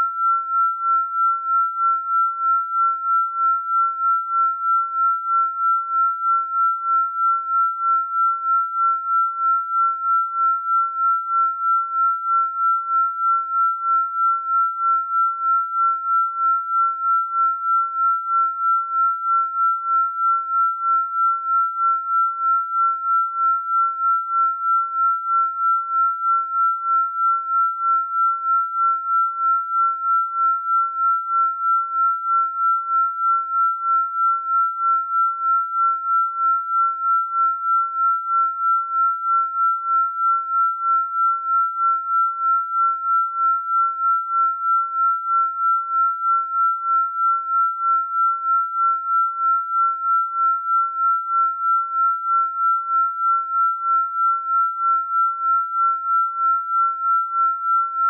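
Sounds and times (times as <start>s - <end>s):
pulsing high pure tone: 0.0s - 58.0s.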